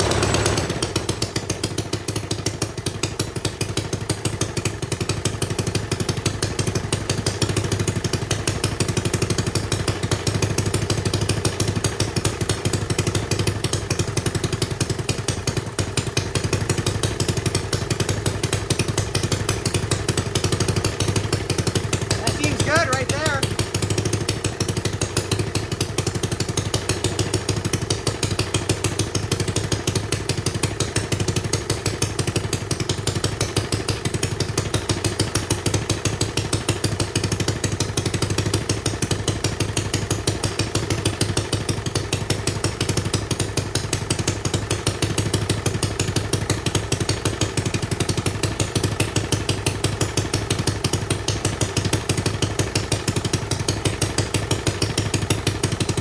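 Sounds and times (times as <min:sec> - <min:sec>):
single-cylinder engine running: 0:00.0 - 0:56.0.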